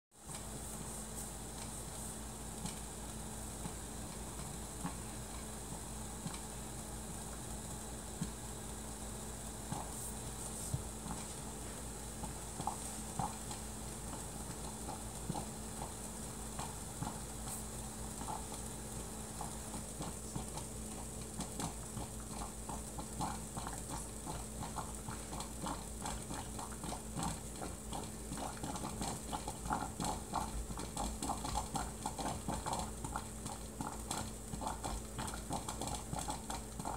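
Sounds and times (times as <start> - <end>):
coffee percolator popping and gurgling: 0.1 - 36.9.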